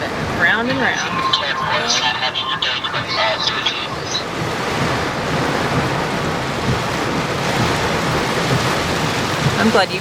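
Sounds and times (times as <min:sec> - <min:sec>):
heavy rain pounding vehicle: 0:00.1 - 0:10.0.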